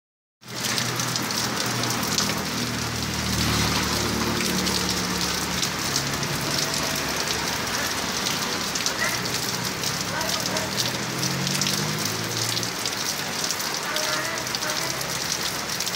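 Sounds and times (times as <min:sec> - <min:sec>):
heavy rain falling: 0:00.4 - 0:15.9.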